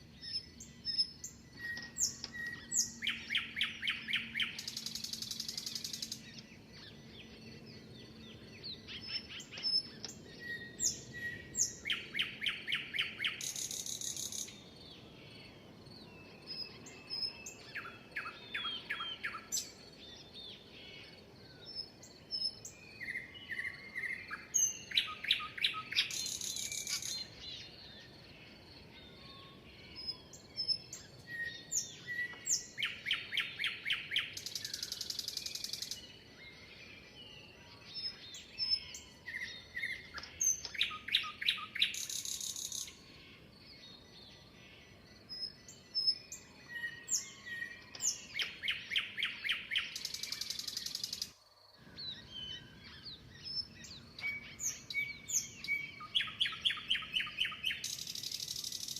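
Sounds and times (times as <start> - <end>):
birds chirping softly: 0.0 - 58.9
songbird with buzzy trill: 0.0 - 58.9.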